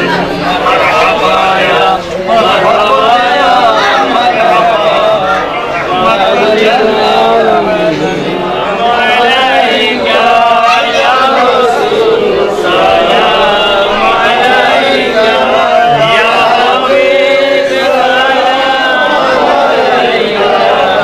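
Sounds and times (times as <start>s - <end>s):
men chanting: 0.0s - 21.0s.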